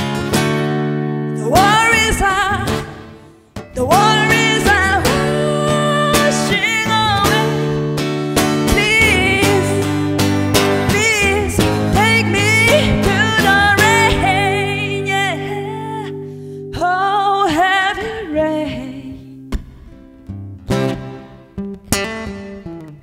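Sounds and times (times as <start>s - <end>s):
plucked guitar notes: 0.0s - 23.0s
sustained guitar chords: 0.0s - 23.0s
woman singing blues: 1.3s - 19.8s.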